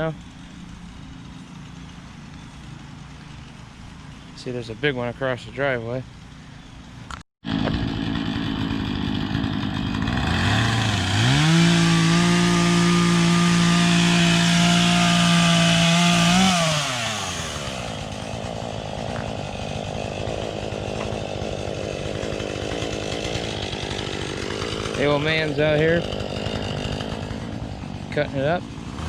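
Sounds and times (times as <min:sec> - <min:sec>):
chainsaw cutting tree: 0:00.0 - 0:04.2, 0:07.4 - 0:29.0.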